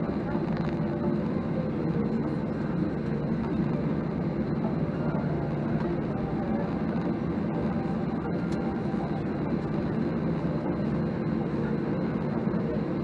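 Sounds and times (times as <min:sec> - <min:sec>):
aircraft cabin engine rumble: 0:00.0 - 0:13.0
faint high whine: 0:00.0 - 0:13.0.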